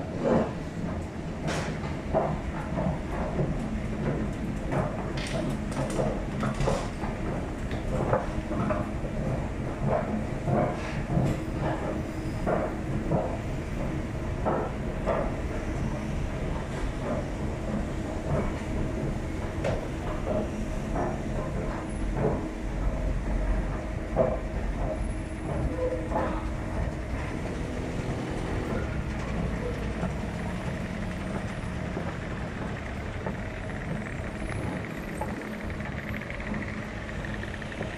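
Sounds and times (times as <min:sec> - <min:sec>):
escalator mechanical hum: 0:00.0 - 0:37.9
escalator steps clacking: 0:00.0 - 0:37.9.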